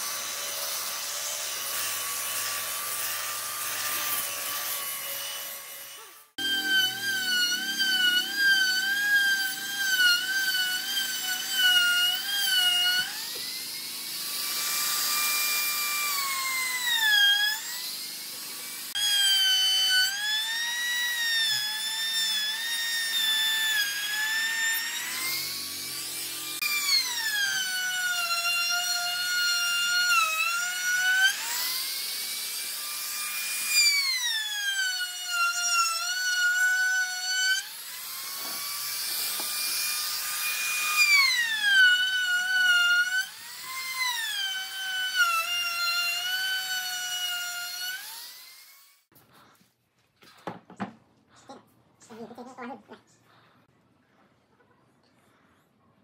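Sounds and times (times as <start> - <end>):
trim router whining: 0.0 - 49.1.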